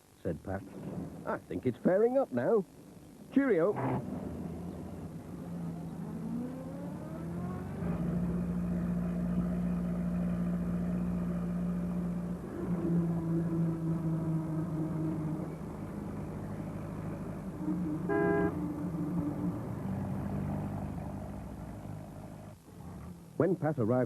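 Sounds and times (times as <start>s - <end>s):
van engine pulling away: 3.5s - 24.0s.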